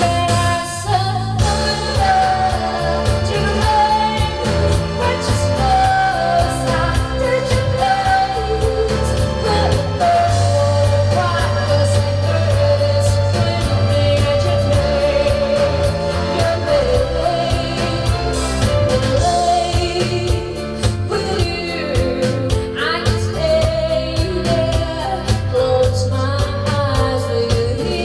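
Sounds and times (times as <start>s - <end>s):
bass line: 0.0s - 28.0s
drums: 0.0s - 28.0s.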